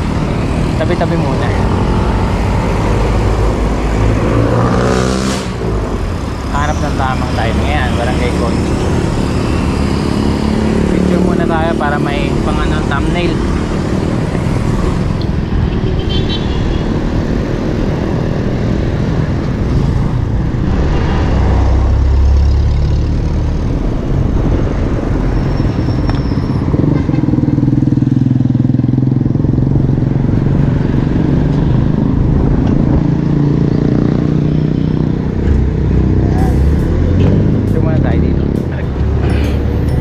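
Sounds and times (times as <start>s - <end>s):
cars and motorcycles passing: 0.0s - 40.0s
steady engine hum: 0.0s - 40.0s.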